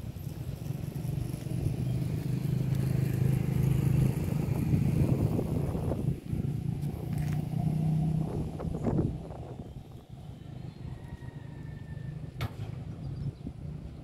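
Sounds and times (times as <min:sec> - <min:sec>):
passing vehicle engine hum: 0:00.0 - 0:14.0.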